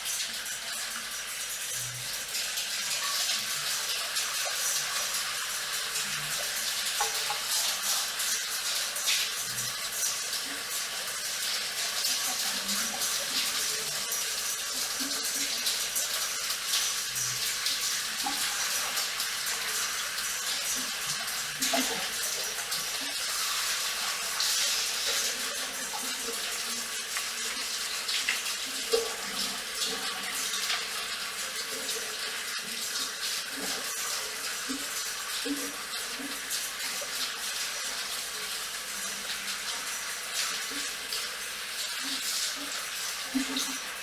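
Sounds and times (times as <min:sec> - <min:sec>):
water running from a tap: 0:00.0 - 0:44.0.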